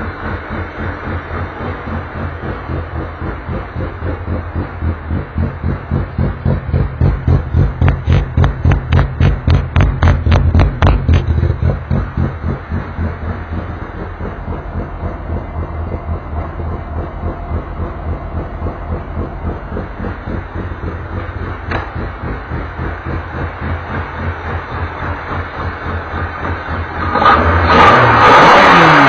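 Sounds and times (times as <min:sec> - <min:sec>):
engine crackles: 0:00.0 - 0:29.0
race car engine idling: 0:00.0 - 0:29.0.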